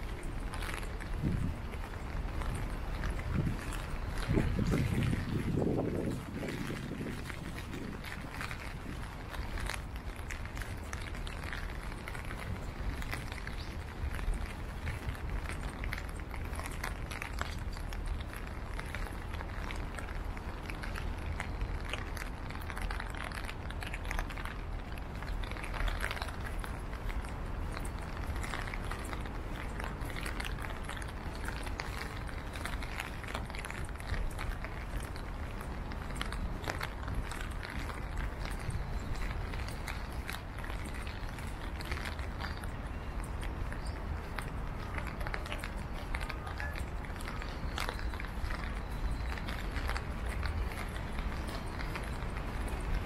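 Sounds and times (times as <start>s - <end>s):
footsteps: 0.0s - 53.0s
traffic rumble: 0.0s - 53.0s.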